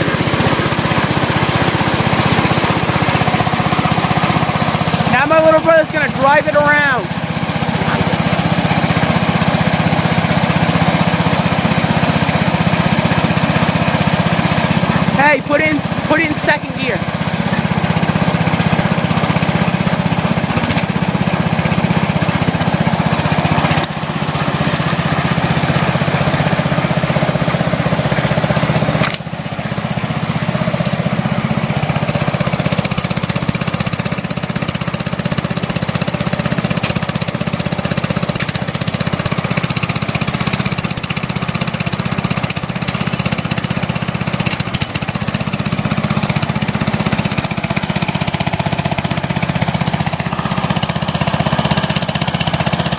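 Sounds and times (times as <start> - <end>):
riding lawn mower engine: 0.0 - 52.9.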